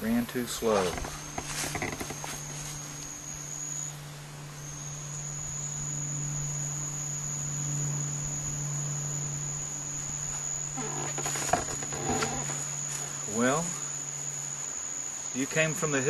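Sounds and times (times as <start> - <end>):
insect buzzing high-pitched: 0.0 - 16.0
steady low hum: 0.0 - 16.0.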